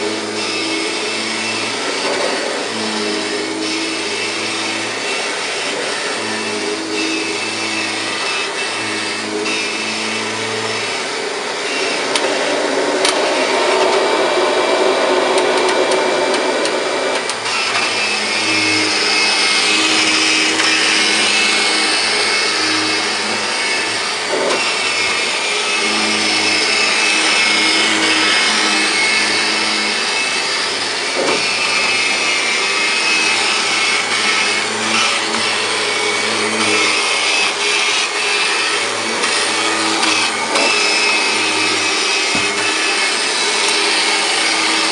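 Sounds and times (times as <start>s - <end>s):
vacuum cleaner on carpet: 0.0s - 44.9s.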